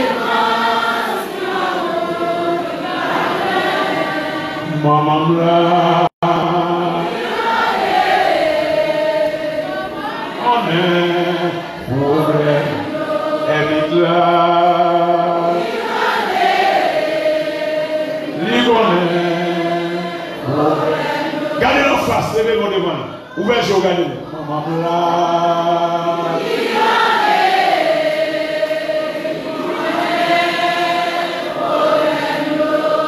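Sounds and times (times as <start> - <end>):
congregation singing a hymn: 0.0 - 33.0.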